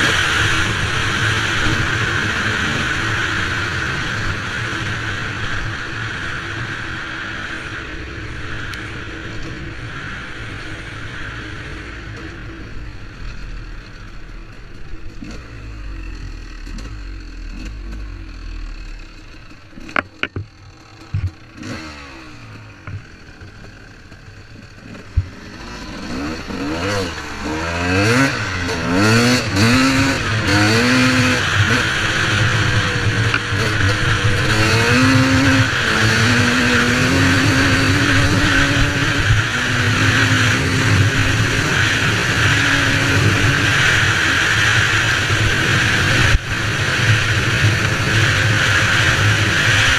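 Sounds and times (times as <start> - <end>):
two-stroke motocross engine revving: 0.0 - 49.9.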